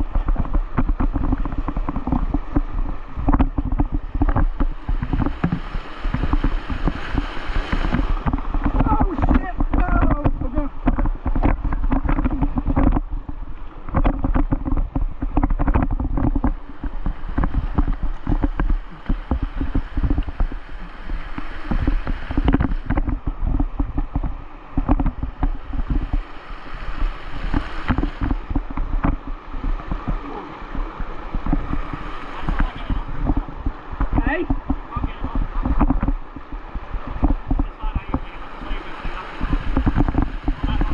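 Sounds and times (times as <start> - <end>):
whitewater rapids rushing: 0.0 - 12.9, 16.4 - 40.9
sharp knocks and bumps: 0.0 - 26.3, 26.9 - 38.4, 39.4 - 40.9
wind buffeting microphone: 0.0 - 40.9.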